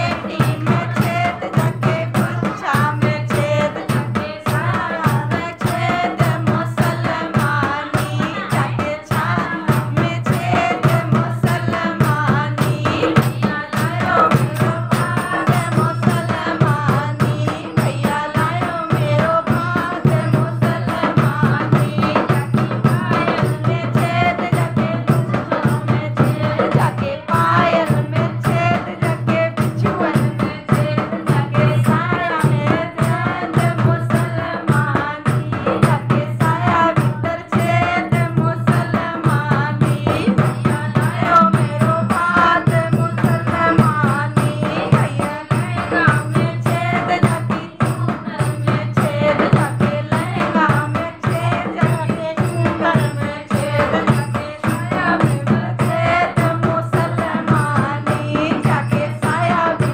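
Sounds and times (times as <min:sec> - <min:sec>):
hand drum beating: 0:00.0 - 0:59.9
women singing together: 0:00.0 - 0:59.9.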